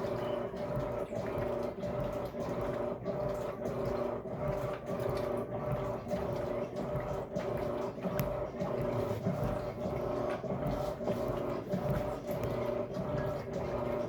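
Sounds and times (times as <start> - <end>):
washing machine motor hum: 0.0 - 14.0
wet laundry churning: 0.0 - 14.0.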